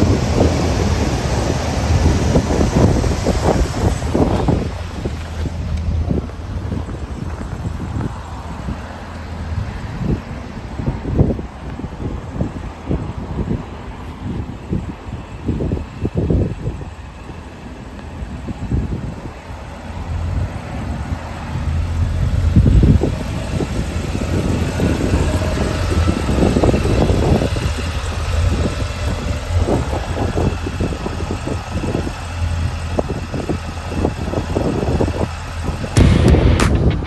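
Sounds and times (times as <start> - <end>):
engine rumbling: 0.0 - 37.0.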